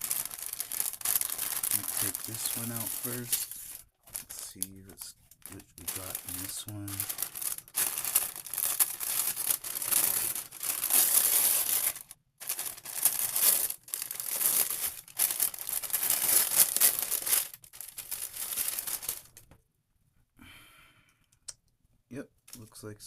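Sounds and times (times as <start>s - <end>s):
wrapping paper crinkling: 0.0s - 19.5s.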